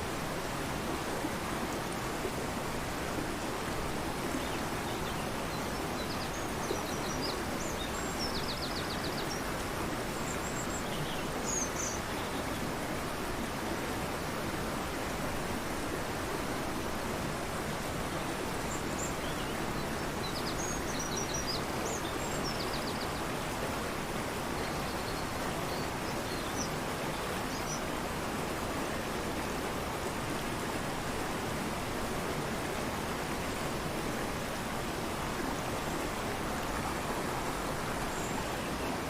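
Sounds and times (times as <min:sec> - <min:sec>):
river rushing: 0:00.0 - 0:39.0.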